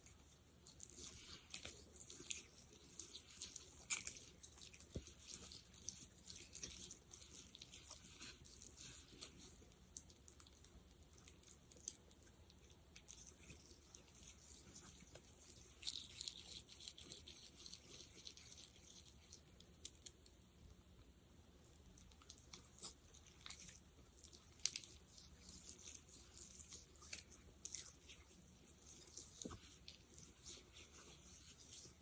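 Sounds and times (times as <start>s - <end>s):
sticky gel crackling: 0.0s - 21.0s, 21.6s - 32.0s.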